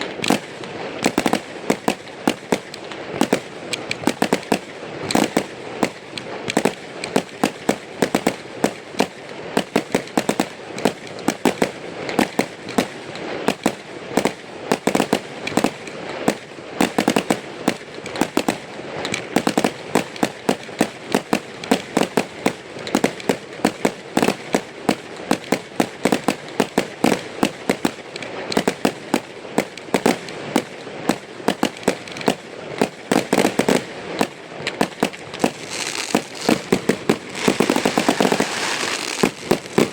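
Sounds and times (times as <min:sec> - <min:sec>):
fireworks bangs: 0:00.0 - 0:39.9
fireworks crackle: 0:00.0 - 0:39.9.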